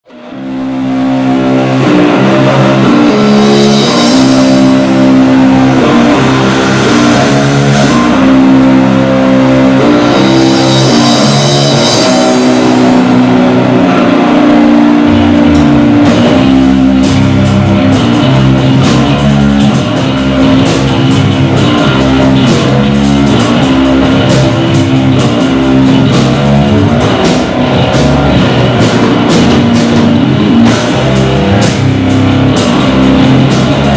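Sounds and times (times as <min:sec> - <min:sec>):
electric guitar and bass riff: 0:00.0 - 0:33.9
drum kit: 0:00.1 - 0:33.9.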